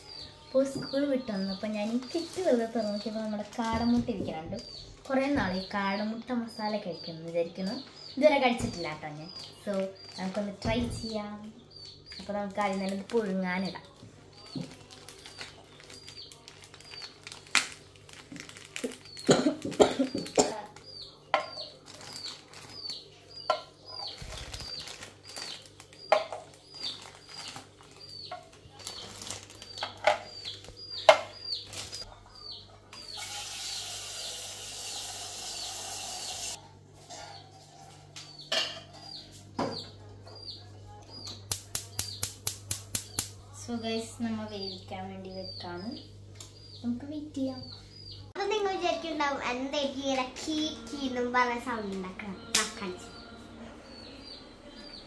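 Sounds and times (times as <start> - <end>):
baby chicks peeping: 0.0 - 34.3, 35.0 - 35.8, 36.6 - 55.0.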